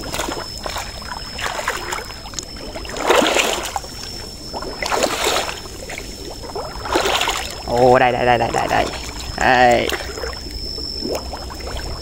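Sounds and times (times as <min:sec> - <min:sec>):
muddy water splashing and sloshing: 0:00.0 - 0:12.0.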